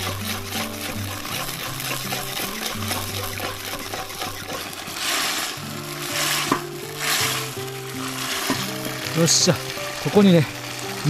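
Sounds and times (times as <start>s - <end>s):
background music: 0.0s - 11.0s
sauce bubbling and sizzling: 0.0s - 11.0s.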